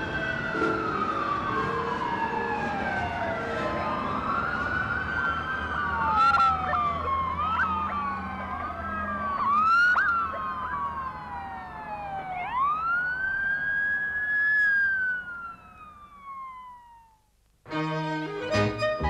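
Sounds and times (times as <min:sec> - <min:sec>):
emergency sirens wailing: 0:00.0 - 0:19.0.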